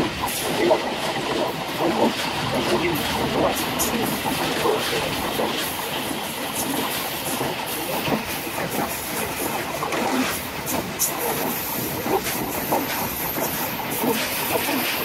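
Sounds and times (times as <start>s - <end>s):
train coach rumbling on track: 0.0s - 15.0s
wheels clicking over rail joints: 0.0s - 15.0s.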